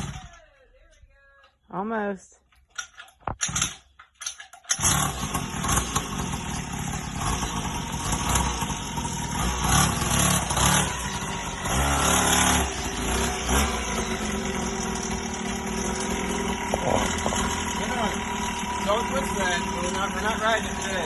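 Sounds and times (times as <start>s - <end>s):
small engine starting and revving: 0.0s - 0.4s, 3.4s - 3.8s, 4.6s - 21.0s.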